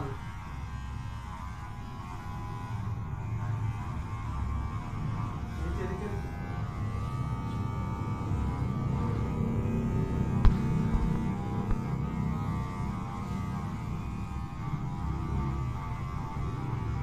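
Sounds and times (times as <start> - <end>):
electric hair clippers buzzing: 0.0 - 17.0.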